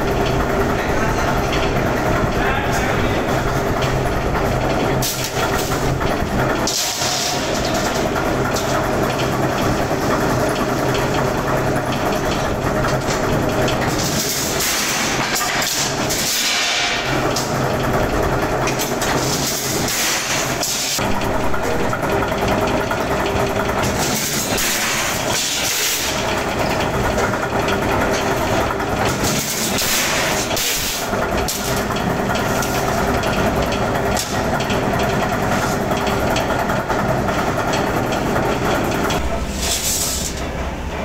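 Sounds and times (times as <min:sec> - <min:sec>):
factory machinery running: 0:00.0 - 0:41.0.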